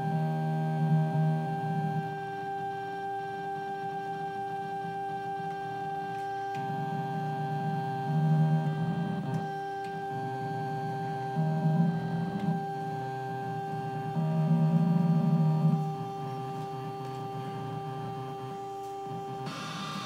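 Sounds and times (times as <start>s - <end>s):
electronic drone of held tones: 0.0s - 20.0s
low buzzing tone: 0.0s - 20.0s.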